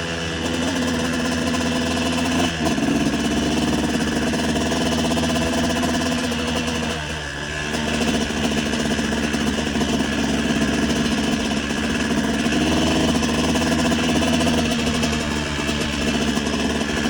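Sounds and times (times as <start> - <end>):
motorbike engine idling: 0.0 - 17.0.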